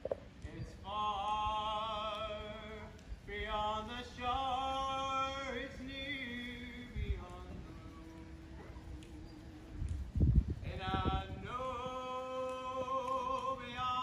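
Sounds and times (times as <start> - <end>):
man singing unaccompanied: 0.4 - 8.6, 10.6 - 14.0.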